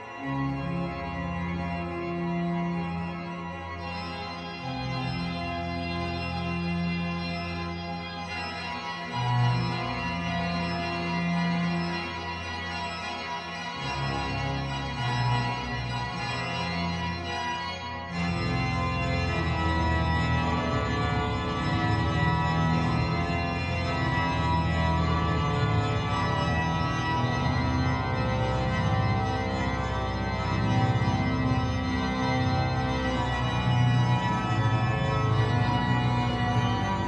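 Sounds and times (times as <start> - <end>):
organ music: 0.0 - 37.0.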